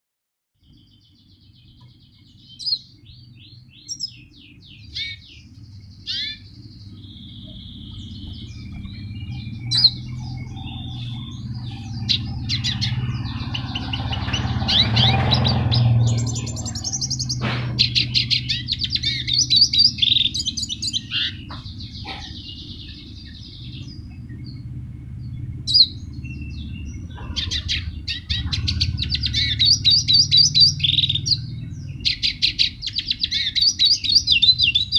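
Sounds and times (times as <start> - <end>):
songbird chirping and trilling: 0.6 - 34.9
steady low hum: 1.4 - 34.9.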